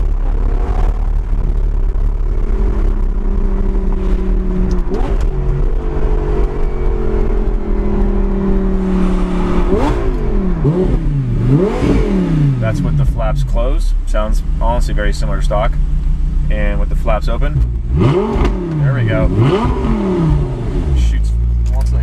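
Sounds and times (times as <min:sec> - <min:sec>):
car engine revving: 0:00.0 - 0:22.0
road and wind rumble: 0:00.0 - 0:22.0.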